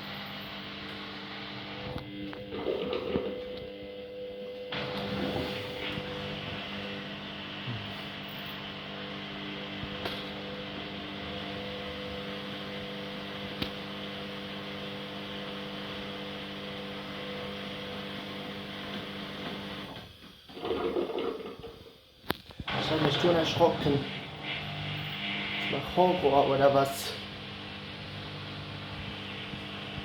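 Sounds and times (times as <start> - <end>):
washing machine spinning: 0.0 - 22.0, 22.6 - 30.0.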